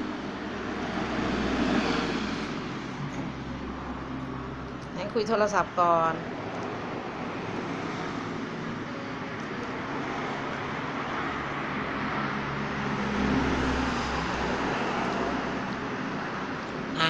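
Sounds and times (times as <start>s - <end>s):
passing vehicle rumble: 0.0s - 17.0s
traffic noise: 0.0s - 17.0s.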